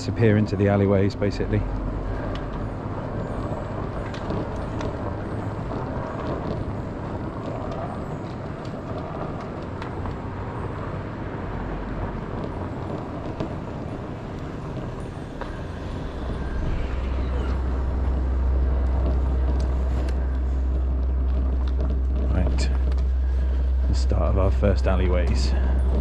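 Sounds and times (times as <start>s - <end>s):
tyre rumble on tarmac: 0.2s - 26.0s
wind on camera: 0.3s - 26.0s.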